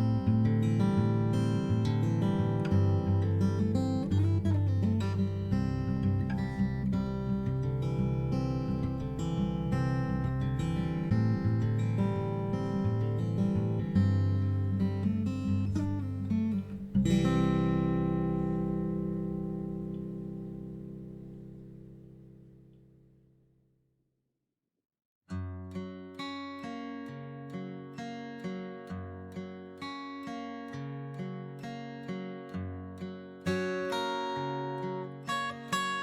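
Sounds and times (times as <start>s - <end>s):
acoustic guitar picking: 0.0s - 22.5s, 25.3s - 36.0s.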